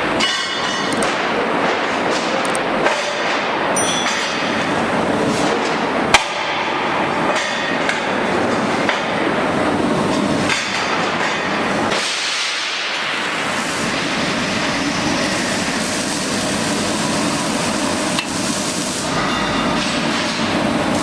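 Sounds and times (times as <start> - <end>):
steady rough metalworking noise: 0.0 - 21.0.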